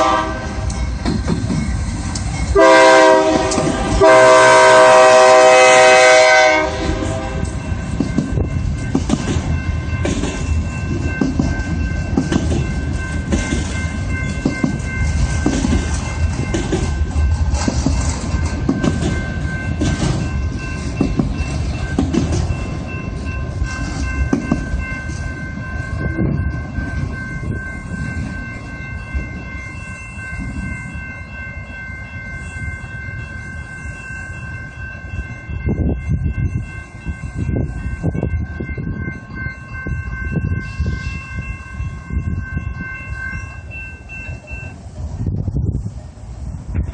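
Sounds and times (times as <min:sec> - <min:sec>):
freight train rumble: 0:00.0 - 0:46.9
steady high tones ringing: 0:00.1 - 0:03.2, 0:07.0 - 0:45.2.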